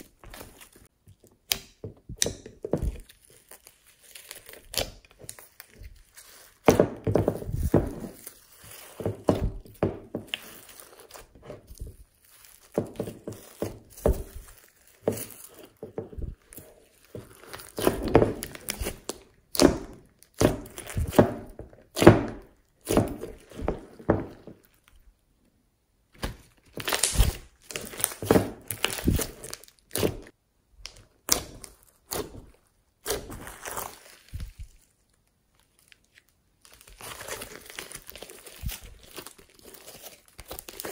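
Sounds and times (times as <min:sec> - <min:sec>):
slime squishing: 0:00.0 - 0:25.2, 0:26.1 - 0:40.9.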